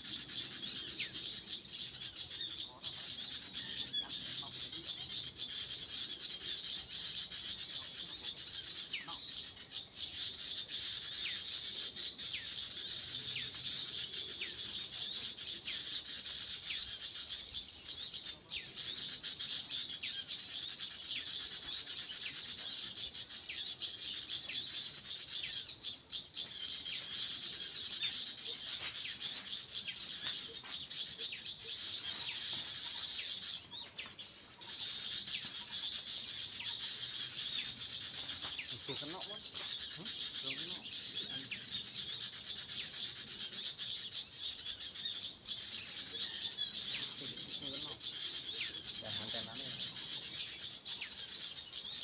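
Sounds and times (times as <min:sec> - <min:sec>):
birds chirping downward: 0:00.0 - 0:52.0.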